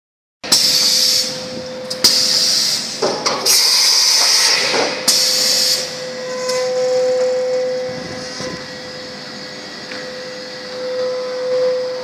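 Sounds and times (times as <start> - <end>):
machine humming: 0.5 - 12.0.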